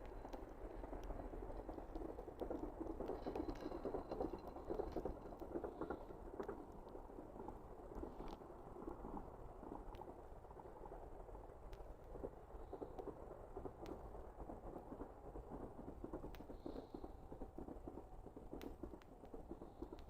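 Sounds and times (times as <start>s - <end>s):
campfire flame rushing: 0.0s - 20.0s
fire crackling and popping: 0.0s - 20.0s.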